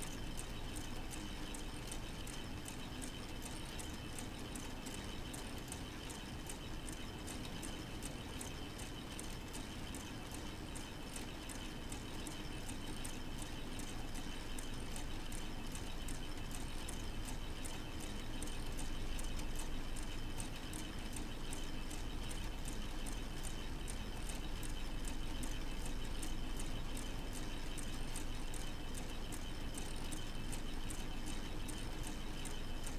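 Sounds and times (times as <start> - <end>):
thin whine and low hum: 0.0 - 32.9.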